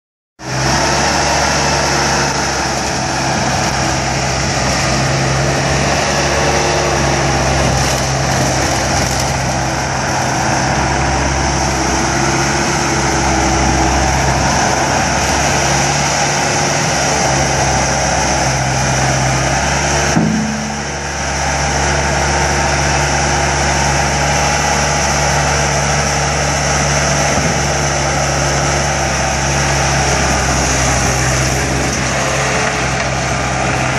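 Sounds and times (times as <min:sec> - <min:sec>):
diesel engine running: 0:00.4 - 0:33.9.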